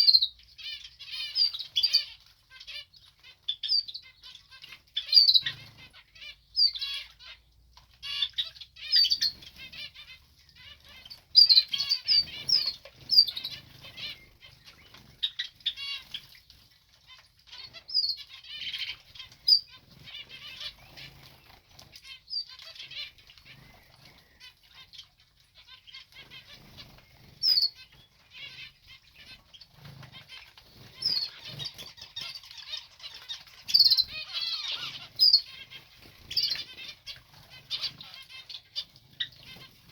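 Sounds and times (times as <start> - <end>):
birds fluttering and splashing: 0.0 - 39.9.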